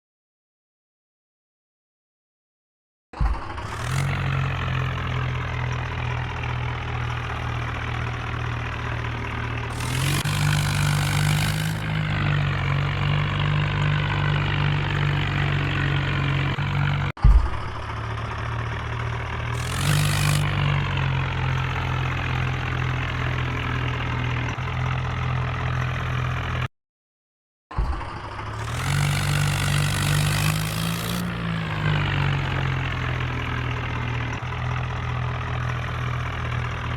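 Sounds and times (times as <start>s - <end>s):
tractor engine running: 3.3s - 26.7s, 27.8s - 36.9s.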